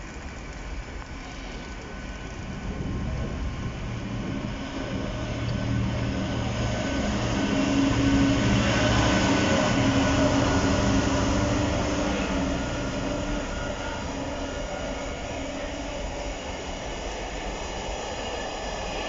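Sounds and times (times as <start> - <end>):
freight wagons rolling on rails: 0.0 - 15.8
diesel locomotive engine drone: 0.0 - 19.0.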